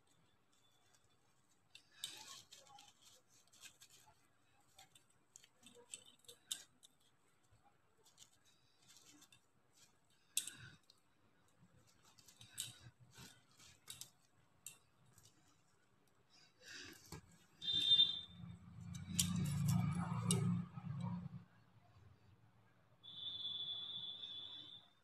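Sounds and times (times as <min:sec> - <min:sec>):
plastic beads clicking and rustling: 0:00.0 - 0:21.0.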